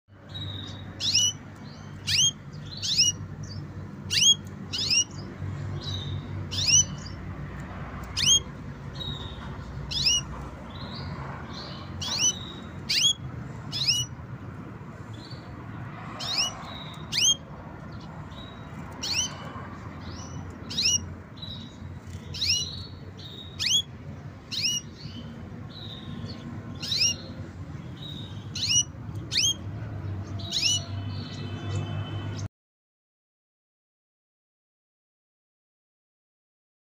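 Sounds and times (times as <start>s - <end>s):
canary chirping: 0.1s - 32.5s.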